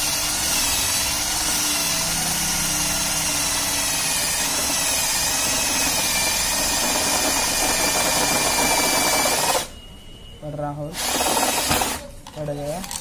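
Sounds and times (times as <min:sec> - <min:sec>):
cordless drill boring through metal: 0:00.0 - 0:09.7, 0:11.0 - 0:12.0.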